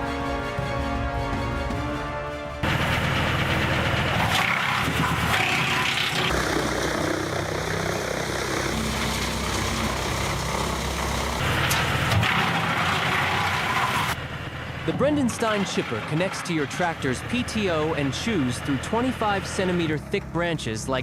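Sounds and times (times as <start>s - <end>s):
heavy machinery engine running: 0.0s - 21.0s.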